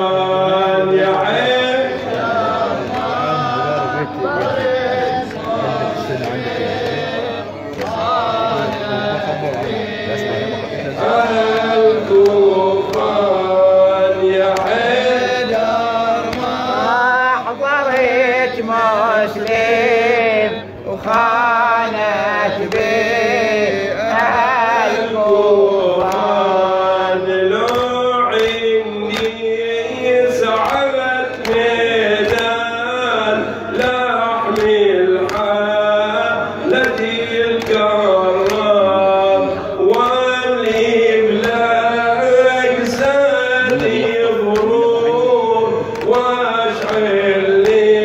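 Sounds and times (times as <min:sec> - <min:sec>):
man chanting a lament: 0:00.0 - 0:48.0.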